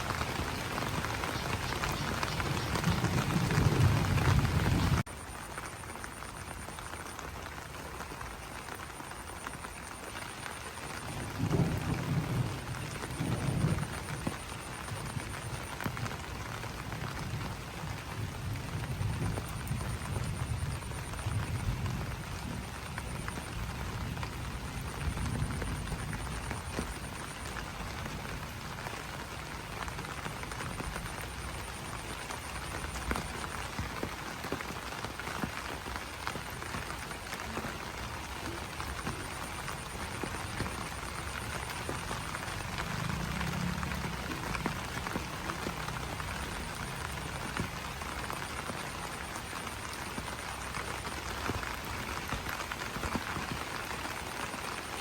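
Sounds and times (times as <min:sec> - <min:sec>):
frogs croaking: 0:00.0 - 0:55.0
rain pattering on leaves: 0:00.0 - 0:55.0.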